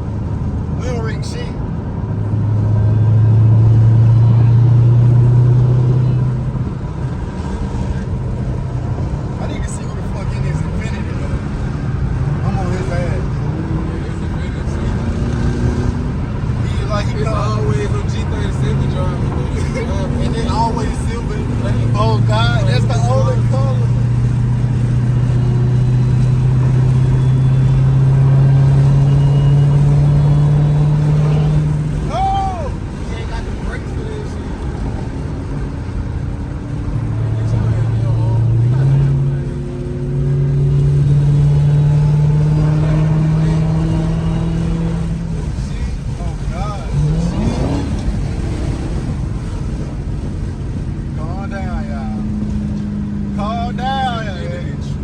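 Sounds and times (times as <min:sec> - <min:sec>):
car exhaust drone: 0:00.0 - 0:55.0.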